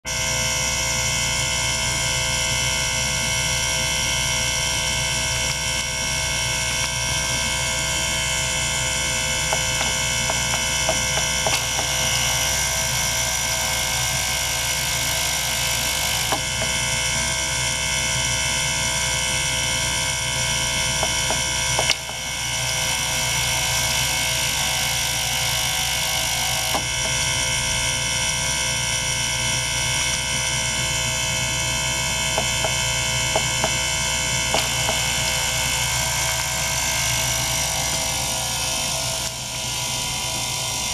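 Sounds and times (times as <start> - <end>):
ultrasonic cleaner buzzing: 0.0 - 40.9.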